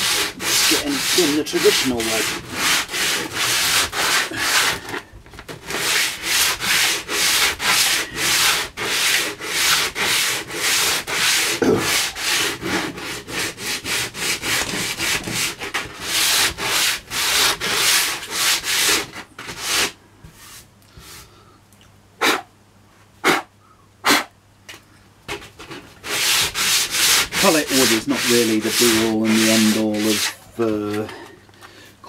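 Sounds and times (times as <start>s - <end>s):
sandpaper rubbing on wood: 0.0s - 21.2s, 25.6s - 30.9s.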